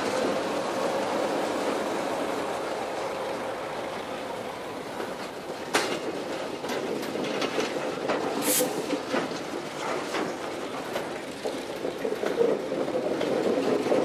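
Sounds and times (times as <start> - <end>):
wagons rumbling past: 0.0 - 14.0
wheels clicking on rails: 0.0 - 14.0.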